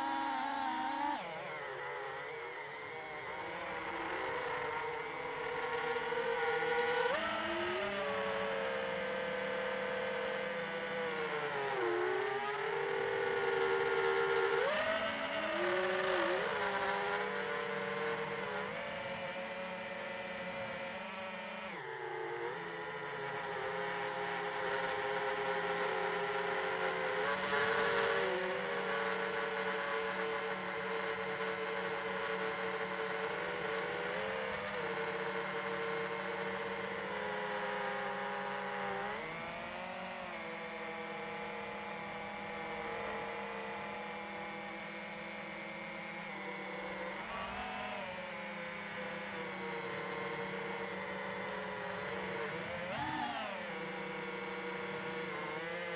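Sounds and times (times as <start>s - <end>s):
electric motor and propeller whining: 0.0s - 55.9s.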